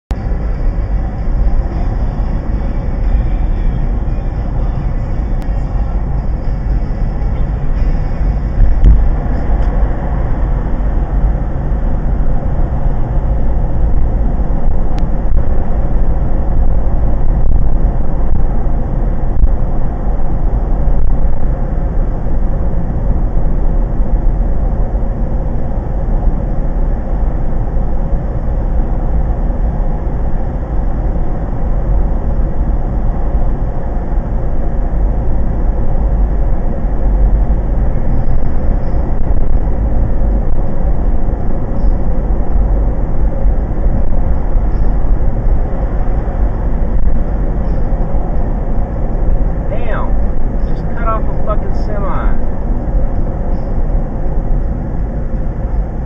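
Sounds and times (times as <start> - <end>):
car road and engine noise: 0.1 - 56.0.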